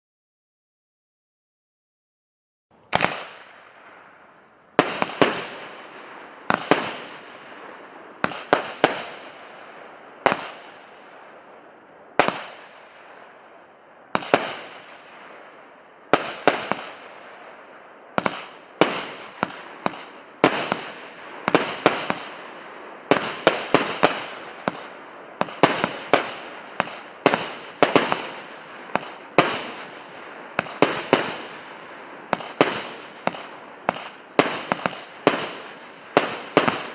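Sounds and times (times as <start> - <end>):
fireworks firing with hiss: 2.7 - 36.9.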